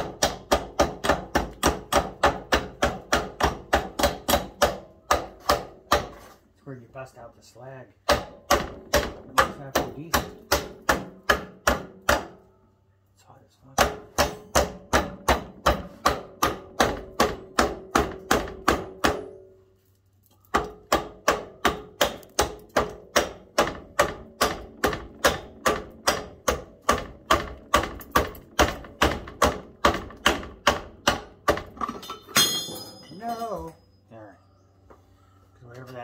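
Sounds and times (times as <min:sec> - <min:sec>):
hammer striking steel tube: 0:00.0 - 0:06.2, 0:08.0 - 0:12.4, 0:13.8 - 0:19.6, 0:20.6 - 0:33.1.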